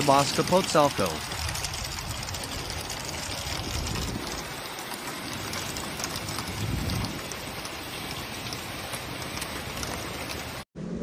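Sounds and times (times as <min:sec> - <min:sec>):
hailstones ticking: 0:00.0 - 0:10.6
heavy rain pouring: 0:00.0 - 0:10.7.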